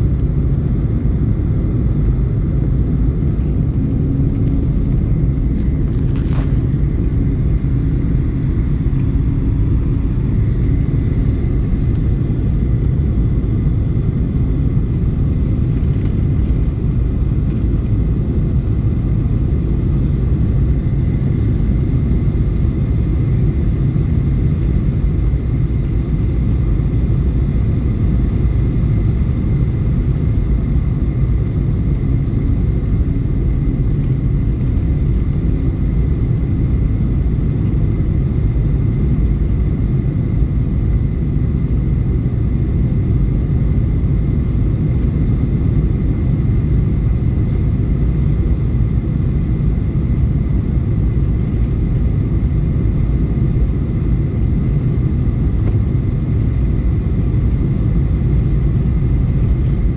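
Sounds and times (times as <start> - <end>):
jet airliner cabin rumble: 0.0 - 59.9.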